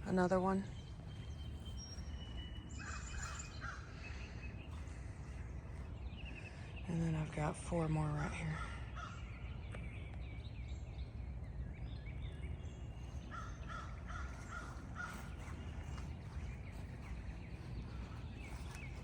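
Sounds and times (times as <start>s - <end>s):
birds calling: 0.0s - 19.0s
low steady rumble: 0.0s - 19.0s.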